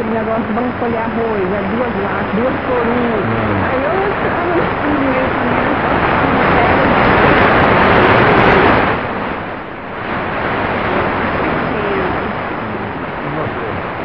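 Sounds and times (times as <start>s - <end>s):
weak radio voice: 0.0s - 8.9s, 10.9s - 14.0s
radio hiss and static: 0.0s - 14.0s.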